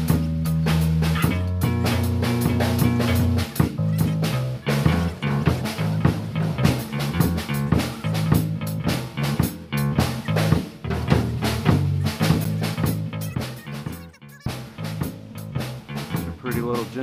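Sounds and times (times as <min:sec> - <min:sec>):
rock music with drums and guitar: 0:00.0 - 0:17.0.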